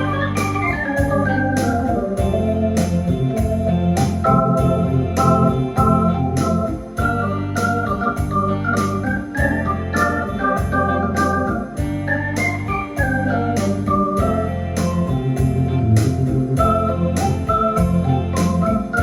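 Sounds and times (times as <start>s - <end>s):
electronic organ melody: 0.0s - 19.0s
pulsing bass line: 0.0s - 19.0s.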